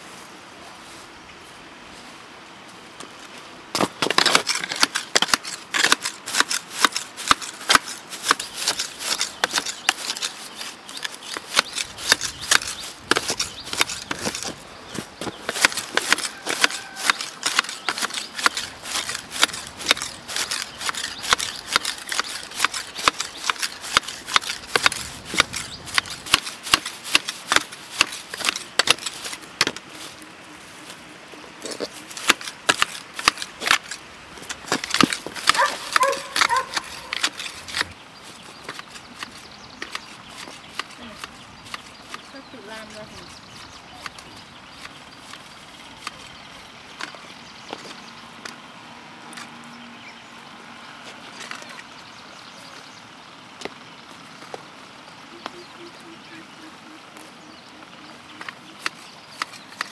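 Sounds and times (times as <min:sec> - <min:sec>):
garden shears snipping grass: 0:03.0 - 0:49.9, 0:55.3 - 0:59.9.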